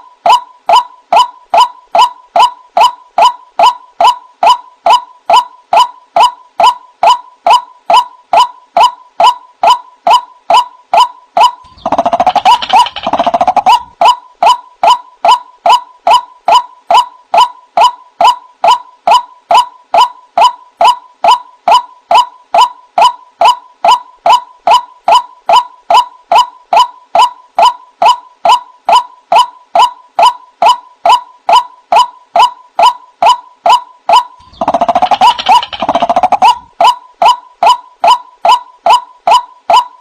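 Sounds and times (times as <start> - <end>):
waterhen call recording: 0.0 - 39.9.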